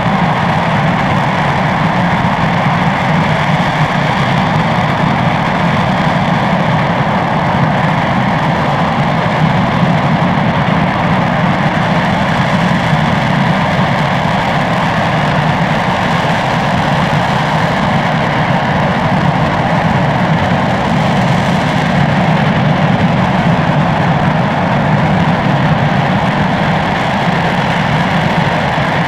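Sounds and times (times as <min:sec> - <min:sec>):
rocket engine exhaust roar: 0:00.0 - 0:29.0.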